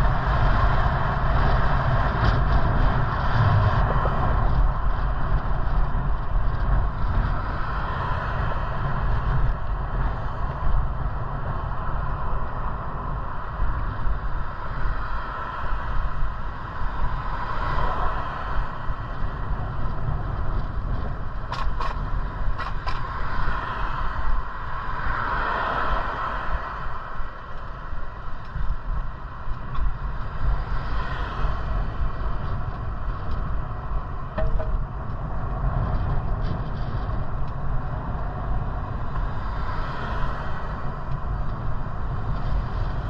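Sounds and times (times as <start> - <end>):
bicycle rolling on trail: 0.0 - 43.0
wind buffeting microphone: 0.0 - 43.0.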